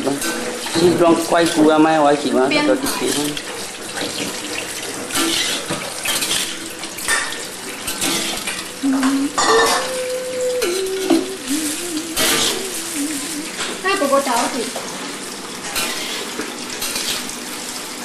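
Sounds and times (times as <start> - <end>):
vegetables sizzling: 0.0 - 18.0.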